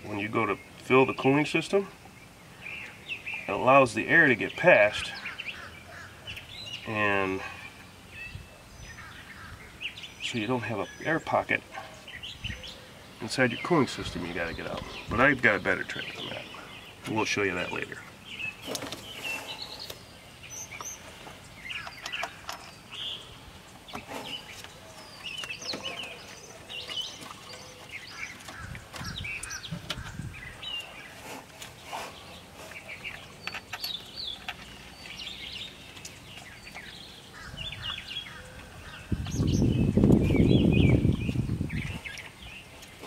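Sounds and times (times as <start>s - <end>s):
small birds chirping and singing: 0.0s - 43.0s.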